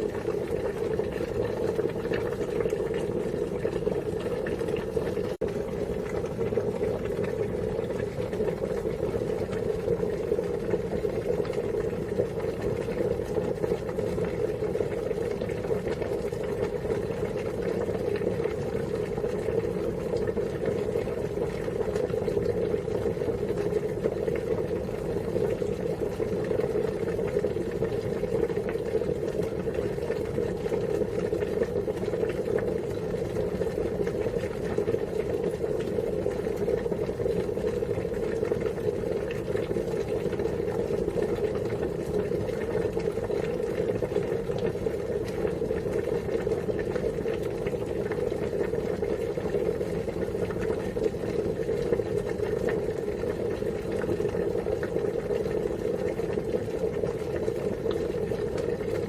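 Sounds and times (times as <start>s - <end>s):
water boiling: 0.0s - 59.0s.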